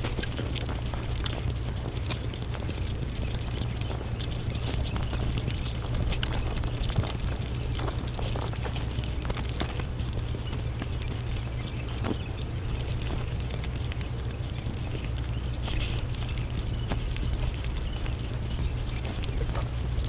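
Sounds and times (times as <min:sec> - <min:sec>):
sped-up chewing and mouth clicks: 0:00.0 - 0:20.0
steady low hum: 0:00.0 - 0:20.0.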